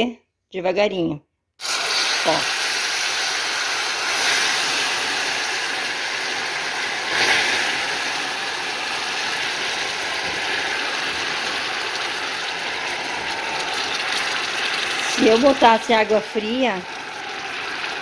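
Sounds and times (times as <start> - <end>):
caramel sizzling and boiling: 1.6 - 18.0.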